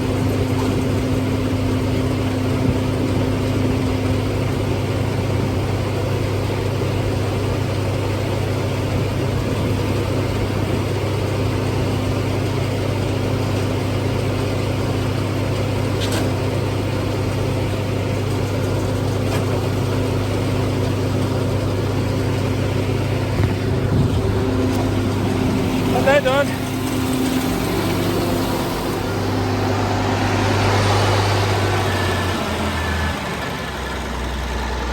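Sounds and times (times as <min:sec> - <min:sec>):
feed grinder-mixer humming: 0:00.0 - 0:34.9.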